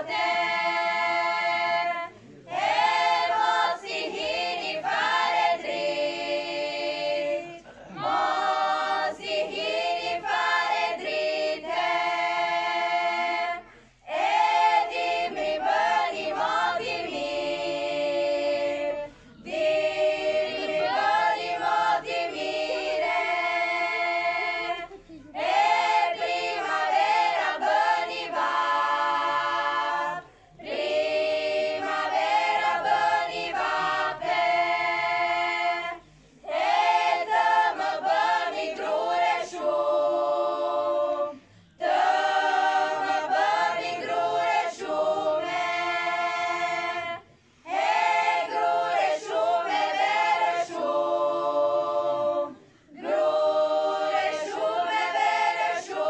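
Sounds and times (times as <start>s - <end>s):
women's choir singing: 0.0s - 56.0s.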